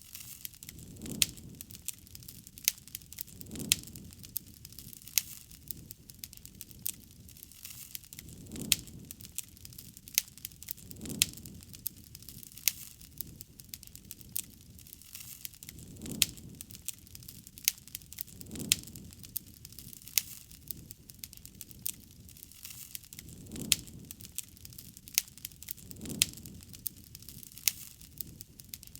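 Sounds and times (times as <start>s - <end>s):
campfire crackling and popping: 0.0s - 28.9s
flame swells: 0.0s - 28.9s.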